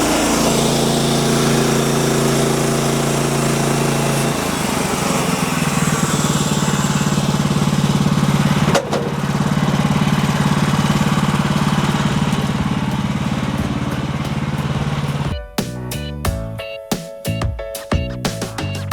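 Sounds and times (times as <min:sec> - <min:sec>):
small gasoline engine running: 0:00.0 - 0:15.4.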